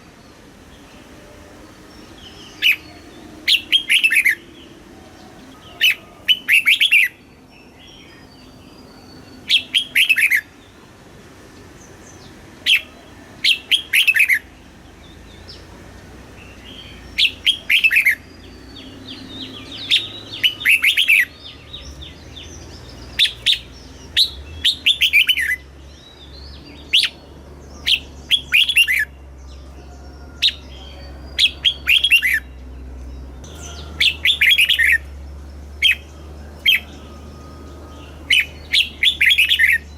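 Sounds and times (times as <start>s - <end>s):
bird singing whistled notes: 0.3s - 4.8s, 5.5s - 10.8s, 12.1s - 15.7s, 16.4s - 39.9s.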